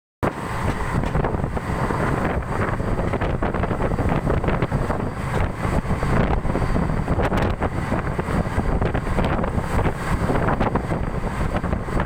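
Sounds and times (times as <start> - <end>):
low rumble and rushing: 0.2 - 12.0
wind buffeting microphone: 0.2 - 12.0.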